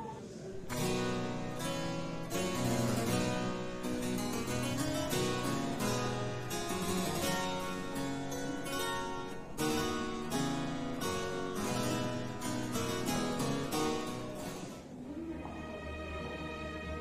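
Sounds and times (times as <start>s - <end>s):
soft music with held notes: 0.0s - 17.0s
harpsichord plucked notes: 0.6s - 15.0s.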